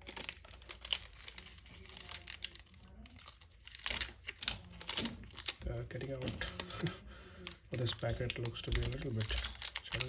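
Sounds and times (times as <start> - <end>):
plastic packet crinkling and tearing: 0.0 - 10.0.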